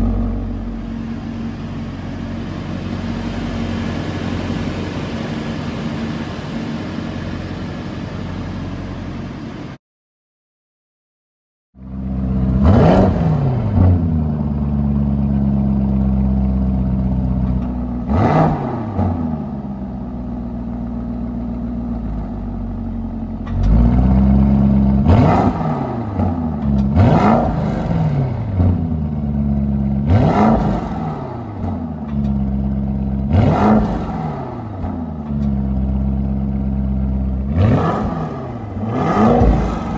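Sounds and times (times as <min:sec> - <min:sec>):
car engine idling and revving: 0:00.0 - 0:09.8, 0:11.8 - 0:39.9.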